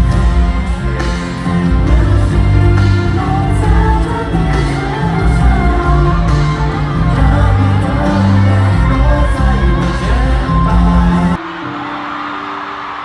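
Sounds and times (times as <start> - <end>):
crowd noise: 0.0 - 13.0
live pop band with singing: 0.0 - 13.0.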